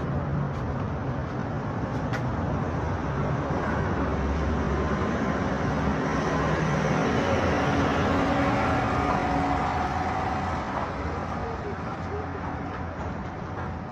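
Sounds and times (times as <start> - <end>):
road noise: 0.0 - 13.9.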